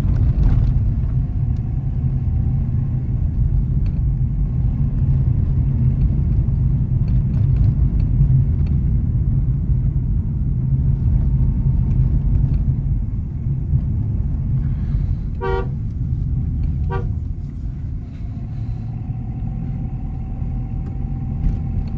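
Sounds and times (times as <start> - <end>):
car engine and road noise: 0.0 - 21.9.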